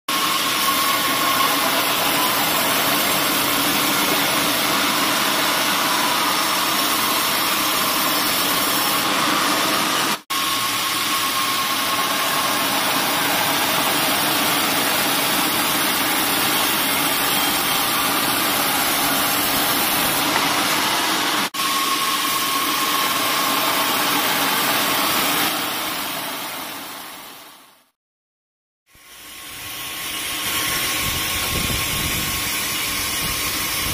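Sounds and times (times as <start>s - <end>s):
band saw cutting log: 0.1s - 26.9s, 29.0s - 33.9s.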